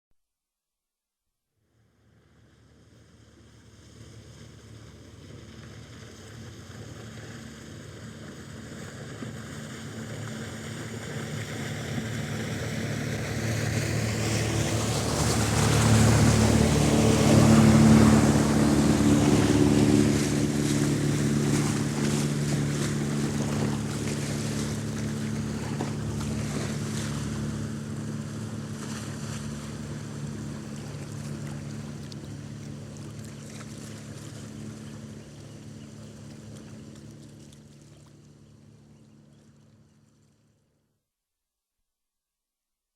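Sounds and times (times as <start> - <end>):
motorboat engine hum: 1.6 - 41.0
water wash rushing: 3.7 - 38.3.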